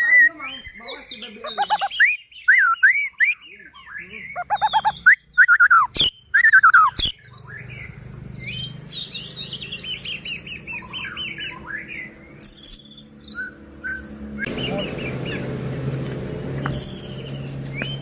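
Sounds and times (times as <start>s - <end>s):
bird singing whistles and chirps: 0.0s - 18.0s.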